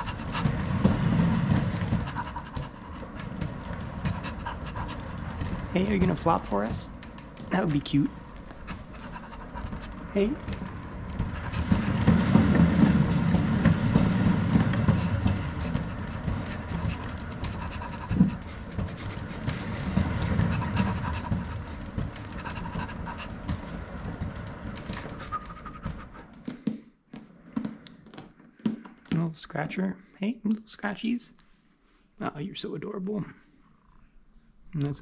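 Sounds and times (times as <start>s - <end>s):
wooden exercise wheel rumbling: 0.0s - 29.8s.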